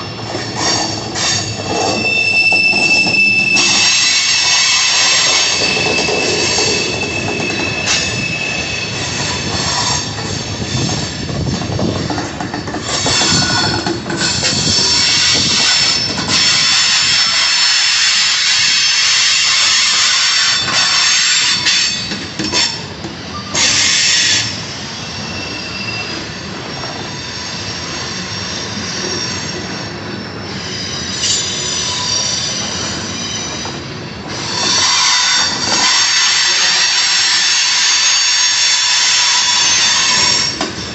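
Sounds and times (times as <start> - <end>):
train rumbling: 0.0 - 40.9
wheels squealing: 0.4 - 17.9, 20.1 - 40.9.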